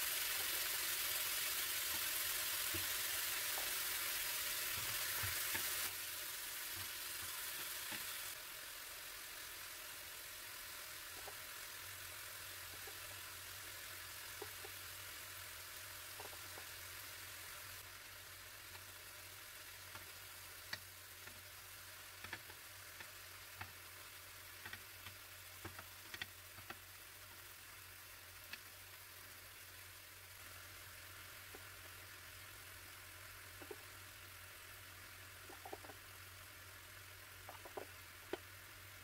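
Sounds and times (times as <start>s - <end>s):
prawns sizzling in grill pan: 0.0s - 39.0s.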